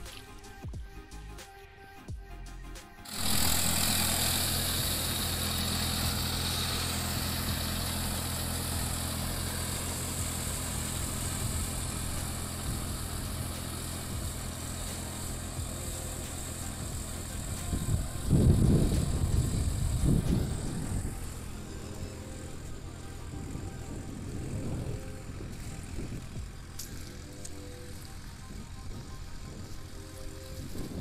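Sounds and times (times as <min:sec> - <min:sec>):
tractor engine running: 0:03.1 - 0:31.0.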